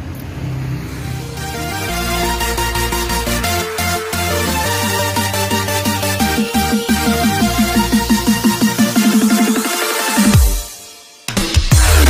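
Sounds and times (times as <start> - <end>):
electronic dance music: 0.8 - 12.0.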